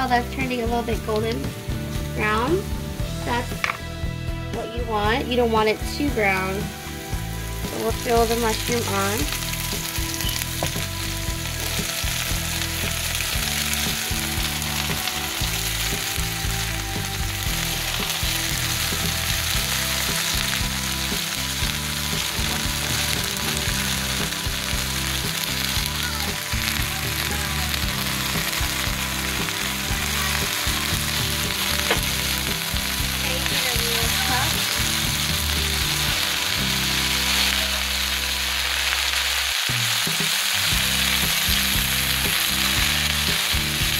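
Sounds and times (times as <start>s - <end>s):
mushrooms sizzling in oil: 0.0s - 43.9s.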